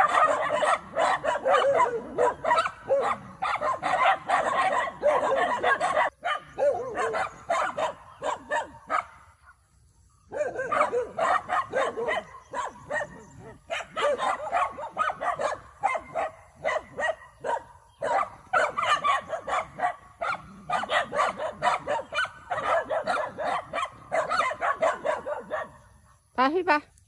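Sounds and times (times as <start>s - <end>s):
dogs barking: 0.0s - 9.6s, 10.2s - 26.3s.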